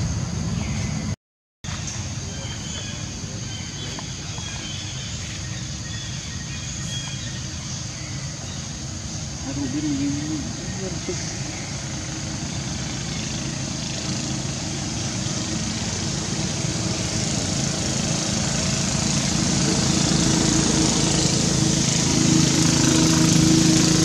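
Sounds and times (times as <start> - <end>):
small engine droning: 0.0 - 24.0.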